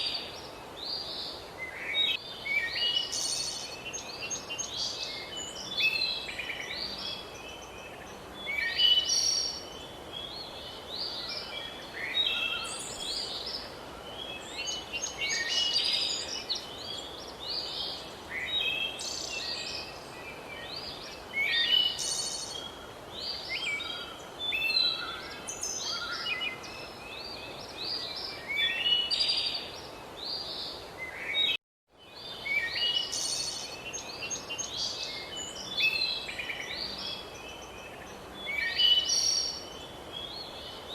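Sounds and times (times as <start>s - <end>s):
steady background hiss: 0.0s - 40.9s
wild birds chirping and singing: 0.0s - 40.9s.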